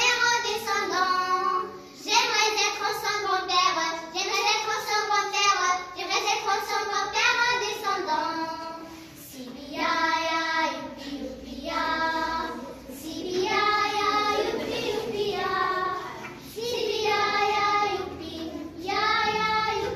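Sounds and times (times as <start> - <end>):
girls singing unaccompanied: 0.0 - 19.9.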